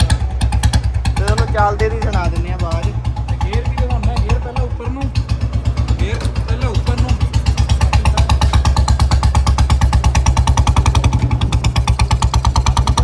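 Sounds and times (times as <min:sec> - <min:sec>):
single-cylinder motorcycle engine running: 0:00.0 - 0:13.0.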